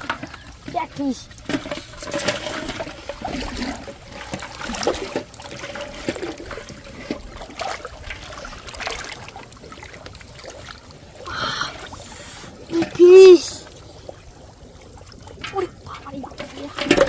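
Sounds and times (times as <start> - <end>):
shallow water trickling: 0.0 - 17.0
small splashes and knocks: 0.0 - 17.0.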